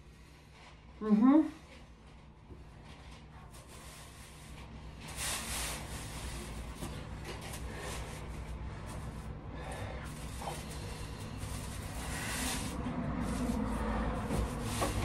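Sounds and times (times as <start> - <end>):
broom sweeping floor: 2.8 - 15.0.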